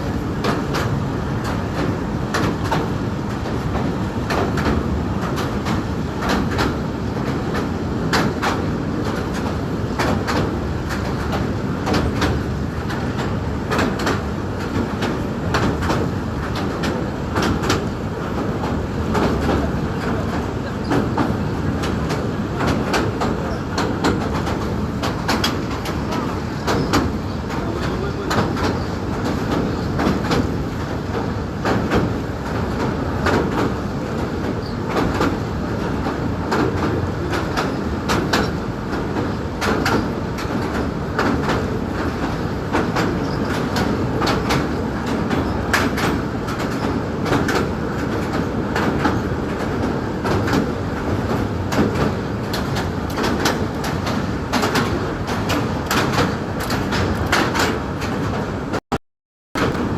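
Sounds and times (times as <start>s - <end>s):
sharp clacks and rattles: 0.0s - 58.8s
train running on rails: 0.0s - 58.8s, 59.6s - 59.9s.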